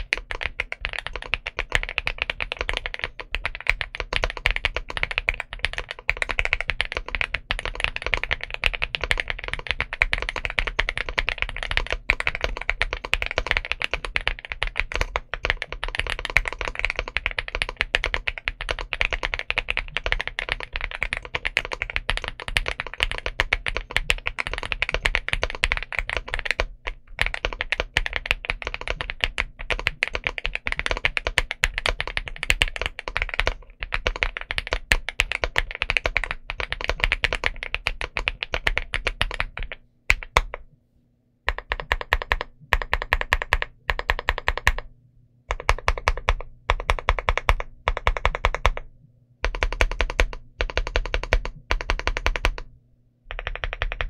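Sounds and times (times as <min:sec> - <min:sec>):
mechanical keyboard typing: 0:00.0 - 0:40.6, 0:41.5 - 0:44.9, 0:45.5 - 0:52.7, 0:53.3 - 0:54.0.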